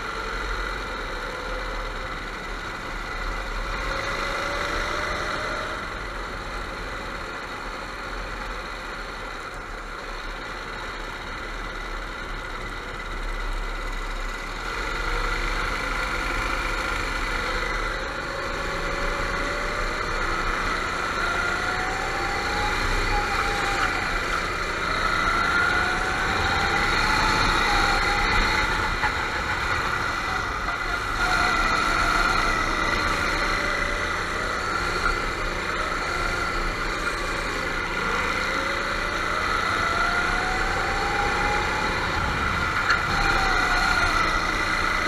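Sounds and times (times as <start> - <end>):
go-kart engines revving: 0.0 - 45.0.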